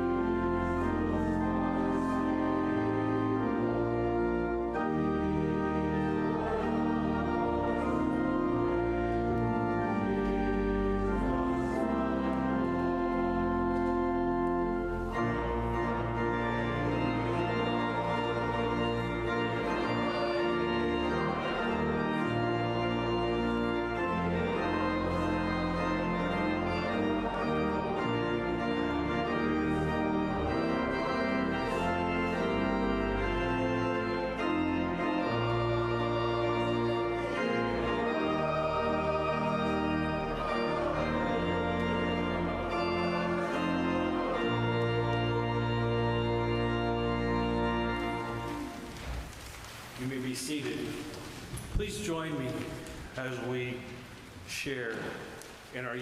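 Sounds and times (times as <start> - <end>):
church organ chords: 0.0 - 49.4, 50.0 - 56.0.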